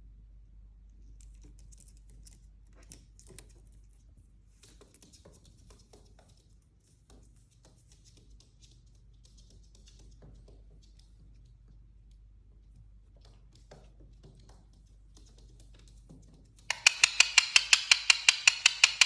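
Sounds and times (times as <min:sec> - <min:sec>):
faint clicks and scratches: 0:00.8 - 0:19.0.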